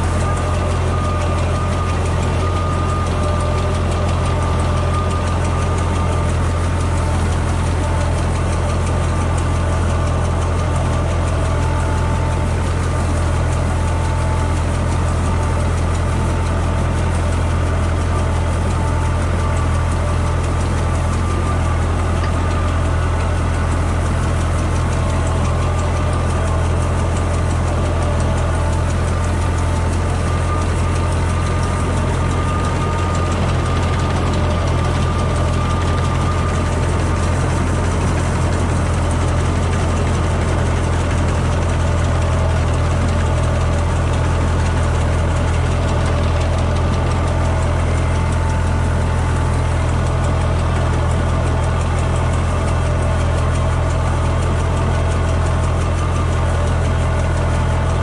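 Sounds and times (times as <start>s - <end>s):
sprayer fan rushing: 0.0s - 58.0s
tractor engine hum: 0.0s - 58.0s.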